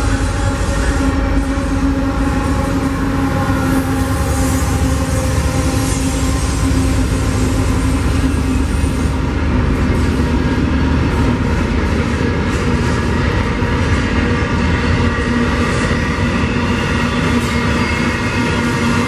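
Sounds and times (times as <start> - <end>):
locomotive engine rumble: 0.0 - 19.0
train wheels rolling on rails: 0.0 - 19.0.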